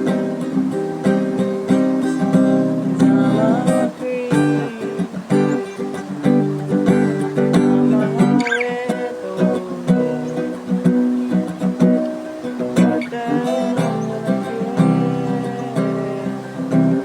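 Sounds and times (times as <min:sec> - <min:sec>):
acoustic guitar strummed: 0:00.0 - 0:17.0.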